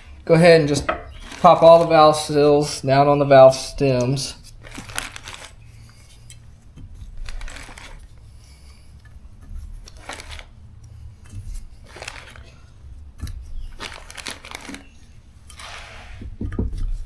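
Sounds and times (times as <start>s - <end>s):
small metal parts scraping and clicking: 0.0s - 17.0s.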